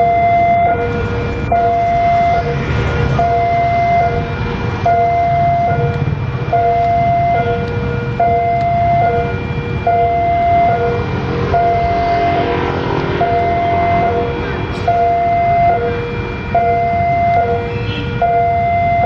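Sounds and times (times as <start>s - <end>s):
low rumble: 0.0s - 17.4s
level crossing two-tone alarm: 0.0s - 19.0s.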